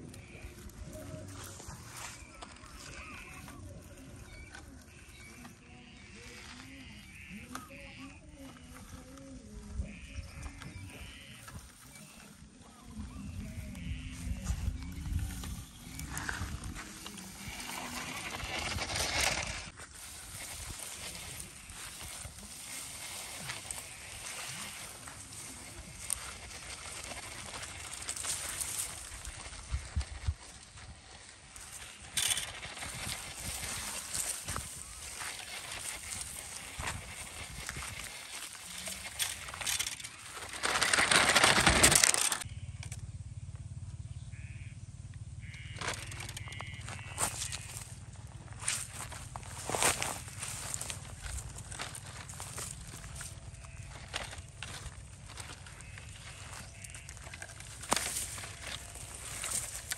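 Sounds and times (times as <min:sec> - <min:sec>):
dry grass and leaves rustling: 0:00.0 - 0:44.7, 0:45.3 - 0:59.9.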